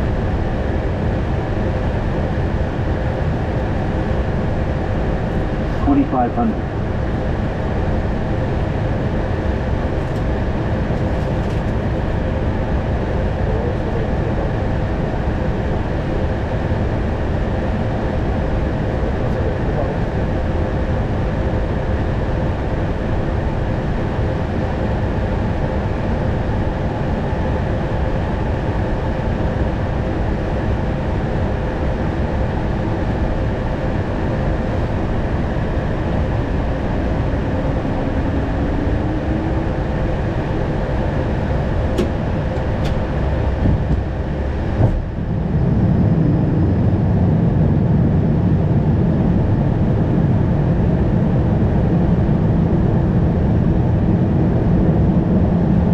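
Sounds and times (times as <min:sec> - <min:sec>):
cockpit airflow and engine noise: 0:00.0 - 0:55.9
low rumble of runway rollout: 0:00.0 - 0:55.9.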